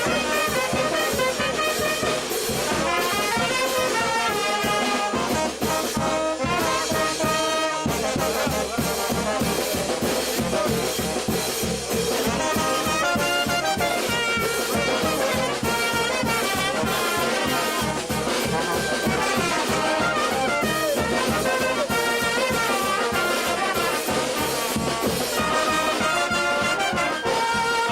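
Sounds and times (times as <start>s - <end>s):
brass band playing: 0.0s - 27.9s.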